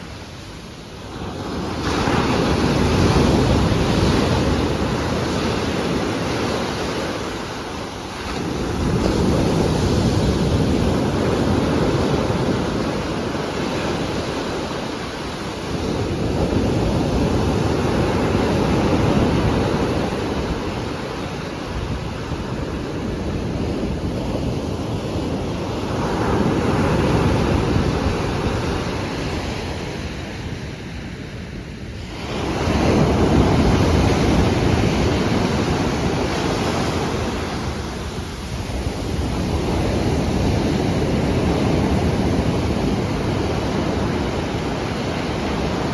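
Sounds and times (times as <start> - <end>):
heavy waves breaking: 0.0 - 45.9
wind on microphone: 0.0 - 45.9.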